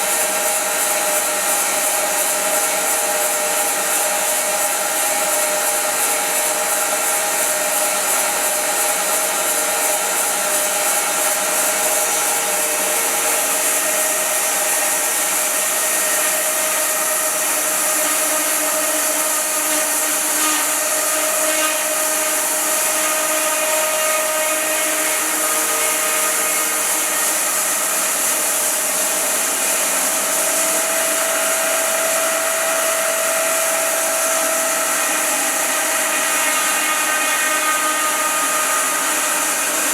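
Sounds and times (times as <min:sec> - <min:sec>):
bandsaw blade sawing log: 0:00.0 - 0:39.9.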